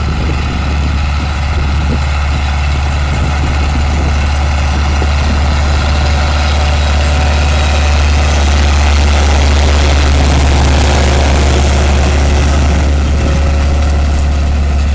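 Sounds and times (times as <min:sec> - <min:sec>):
tractor diesel engine droning: 0:00.0 - 0:14.9.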